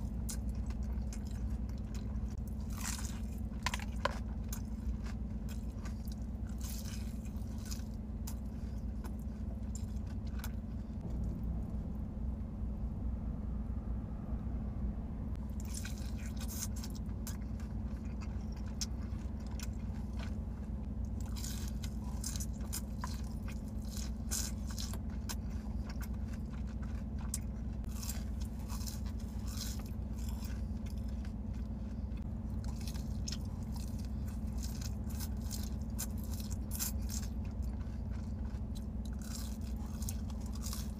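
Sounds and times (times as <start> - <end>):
crunchy bites and chewing: 0.0 - 11.4, 15.4 - 40.9
low hum: 0.0 - 40.9.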